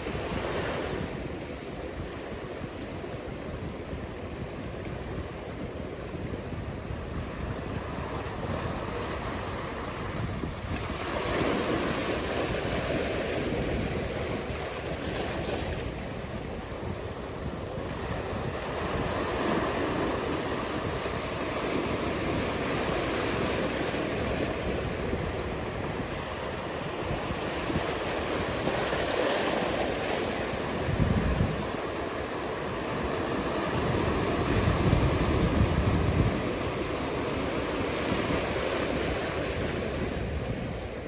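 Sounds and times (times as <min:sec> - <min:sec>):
ocean surf rushing: 0:00.0 - 0:41.0
wind buffeting microphone: 0:00.0 - 0:41.0.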